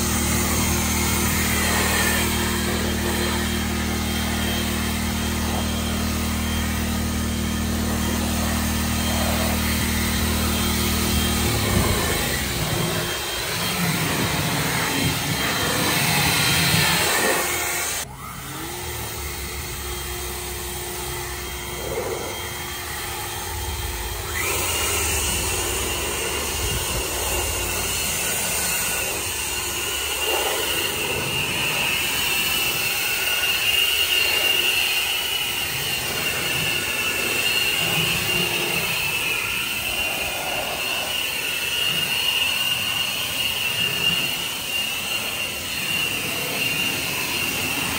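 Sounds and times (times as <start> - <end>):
high whine: 0.0 - 47.9
leaf blower rushing whine: 0.0 - 47.9.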